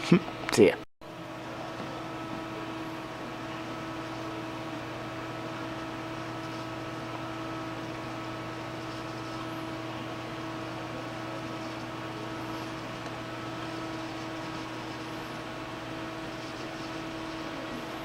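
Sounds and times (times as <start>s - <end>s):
computer cooling fans whirring: 0.0s - 18.0s
electrical hum: 0.0s - 18.0s.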